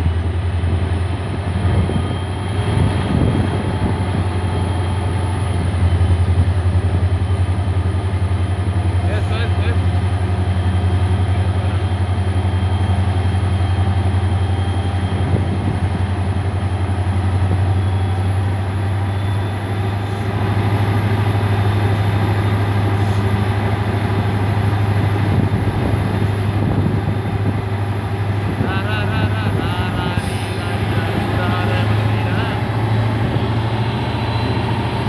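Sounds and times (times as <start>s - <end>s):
freight locomotive engine drone: 0.0s - 35.0s.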